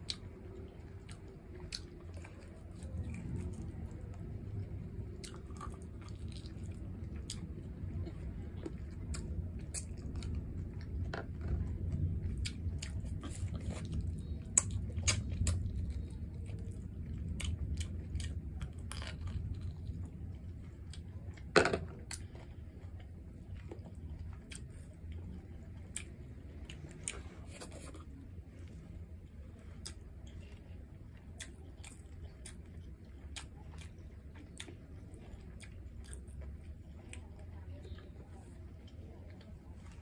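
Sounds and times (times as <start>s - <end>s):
person chewing: 0.0s - 4.2s, 4.9s - 21.4s, 22.1s - 28.7s, 31.3s - 38.6s.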